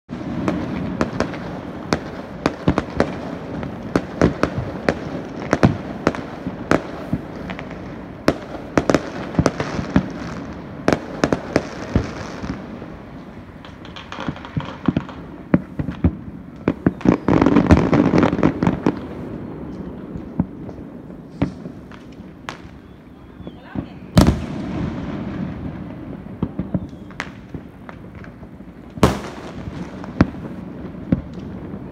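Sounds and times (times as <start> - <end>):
fireworks bangs and pops: 0.1 - 31.9.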